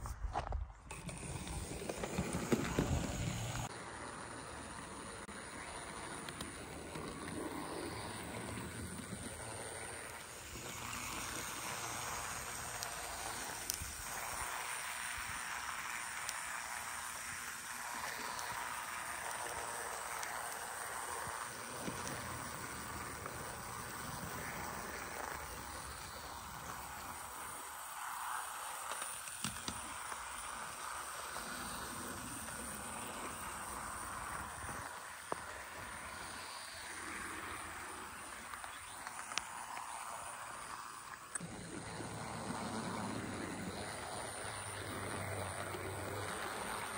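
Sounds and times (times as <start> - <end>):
model train wheels rushing on rail: 0.9 - 46.9.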